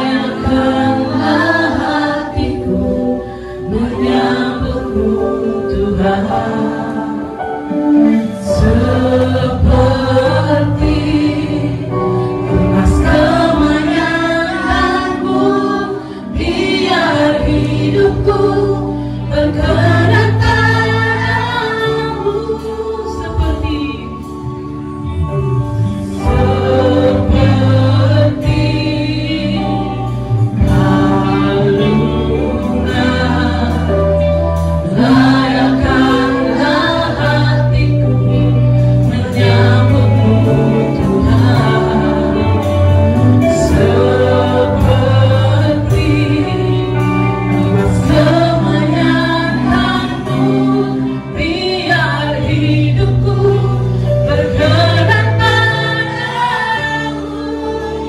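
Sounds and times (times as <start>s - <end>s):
drum kit: 0.0s - 58.0s
electric guitar: 0.0s - 58.0s
group of singers singing: 0.0s - 58.0s
bass line: 8.1s - 58.0s.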